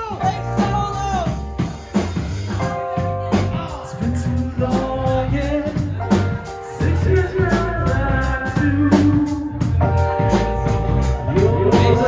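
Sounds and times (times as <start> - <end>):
drum kit steady beat: 0.0 - 12.0
live rock band playing: 0.0 - 12.0.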